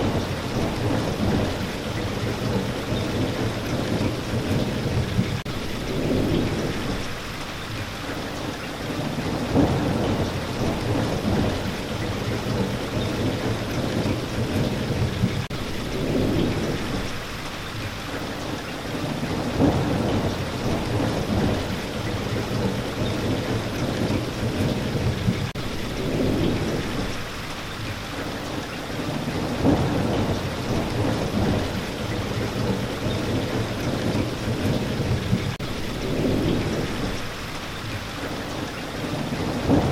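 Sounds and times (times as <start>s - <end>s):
heavy rain: 0.0s - 39.9s
thunder rumbles: 0.0s - 39.9s.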